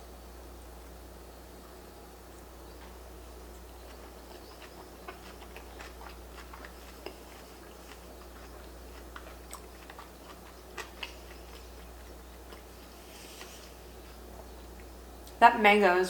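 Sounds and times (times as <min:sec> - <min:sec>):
steady low hum: 0:00.0 - 0:16.0
chewing with wet mouth clicks: 0:02.3 - 0:15.4.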